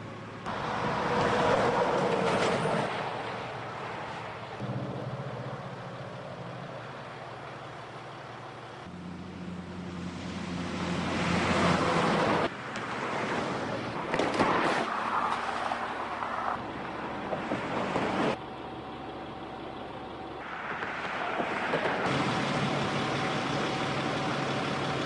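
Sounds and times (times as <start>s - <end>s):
engine running: 0.0s - 14.4s, 15.4s - 25.0s
heavy trucks passing: 0.0s - 25.0s
passing traffic: 0.0s - 25.0s.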